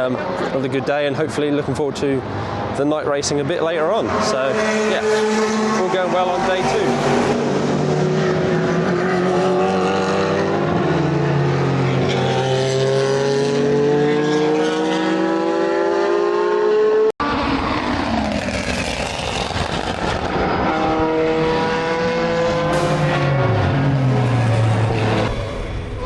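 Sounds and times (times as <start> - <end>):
racing car engine revving: 3.5 - 26.0.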